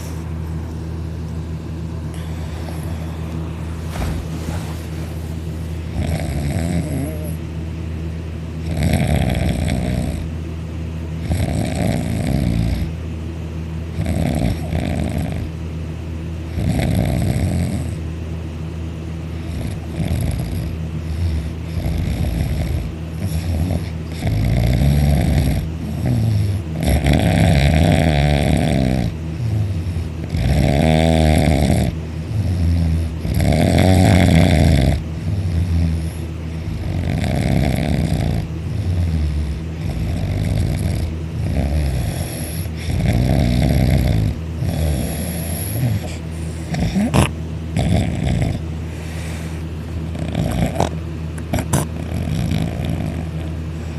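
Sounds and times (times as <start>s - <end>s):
loud snoring: 2.1s - 7.4s, 8.6s - 10.3s, 11.2s - 13.0s, 13.9s - 15.5s, 16.5s - 18.0s, 19.3s - 53.9s.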